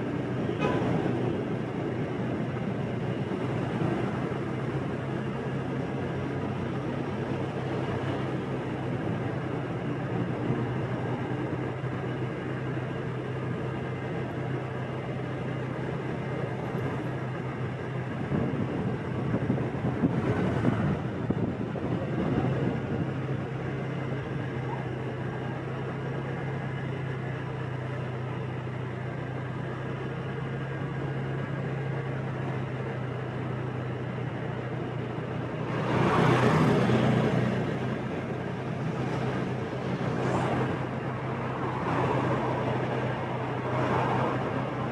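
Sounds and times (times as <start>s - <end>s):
road and traffic noise: 0.0s - 44.9s.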